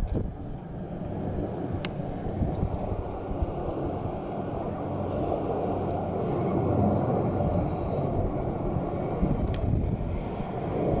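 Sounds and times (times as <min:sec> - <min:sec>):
helicopters flying past: 0:00.3 - 0:11.0.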